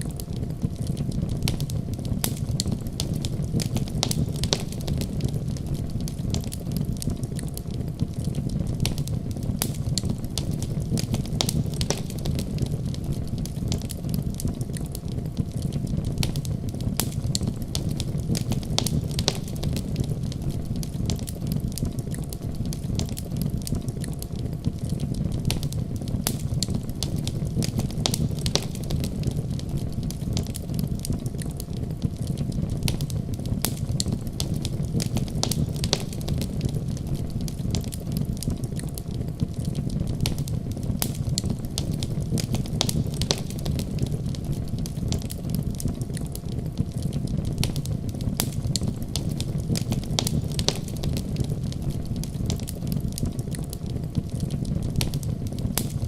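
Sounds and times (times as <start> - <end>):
fire crackling and popping: 0.0 - 56.0
low rumble of fire: 0.0 - 56.0.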